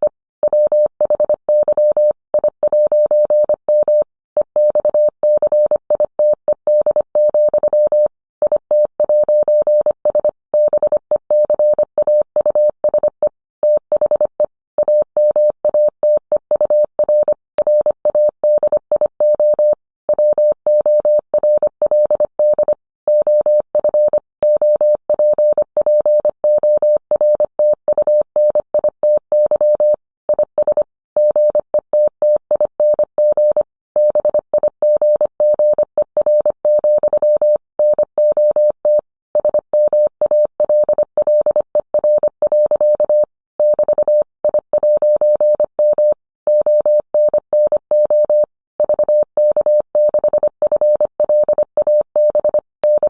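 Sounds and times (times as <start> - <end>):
morse code beeps: 0.4 - 53.0.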